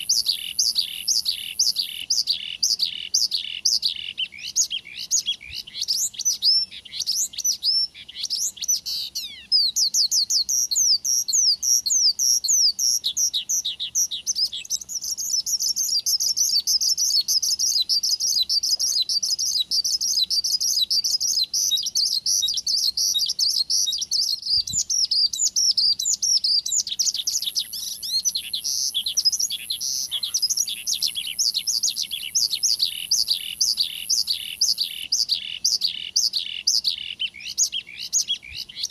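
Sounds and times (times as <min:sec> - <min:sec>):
bush lark singing rapid chirps: 0:00.0 - 0:38.9.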